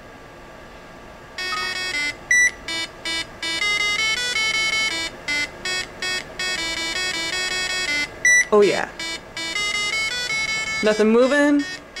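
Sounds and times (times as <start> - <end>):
electronic beep melody: 1.4 - 12.0.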